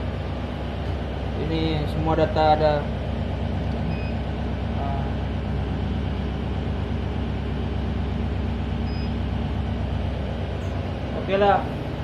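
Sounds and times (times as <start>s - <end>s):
ship diesel engine droning: 0.0s - 12.0s.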